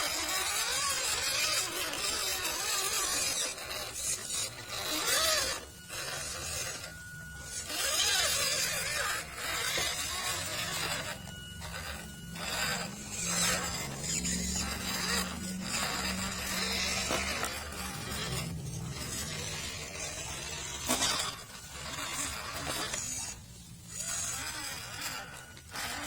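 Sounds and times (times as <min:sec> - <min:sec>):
electric motor whining: 0:00.0 - 0:26.0
tyres scraping and crunching: 0:00.0 - 0:26.0.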